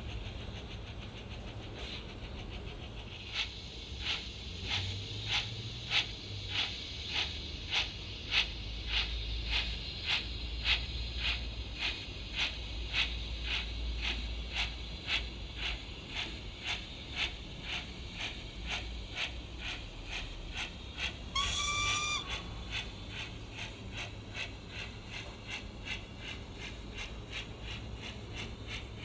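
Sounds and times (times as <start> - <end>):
model locomotive steam chuffing: 0.0 - 29.0.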